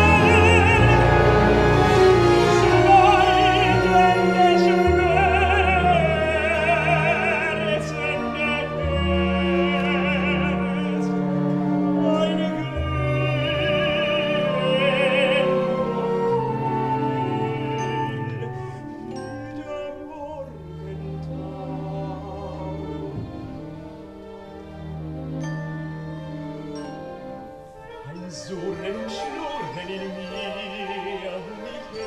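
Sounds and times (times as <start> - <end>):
operatic tenor singing: 0.0 - 25.5, 26.5 - 32.0
orchestra sustaining low notes: 0.0 - 32.0.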